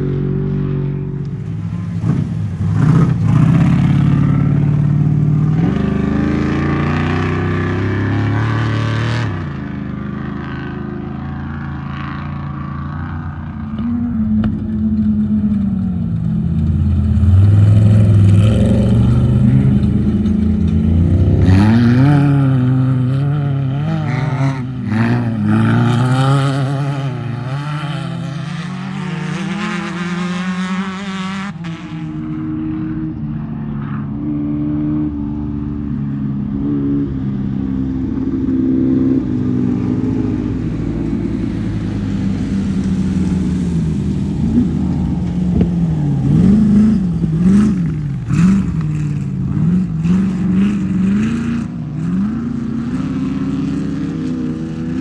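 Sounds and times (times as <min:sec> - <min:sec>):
race vehicle engines revving: 0:00.0 - 0:55.0.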